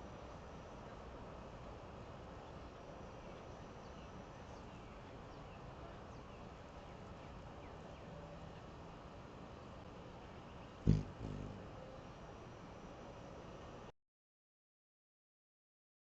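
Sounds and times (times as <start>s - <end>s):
faint background hiss: 0.0s - 13.9s.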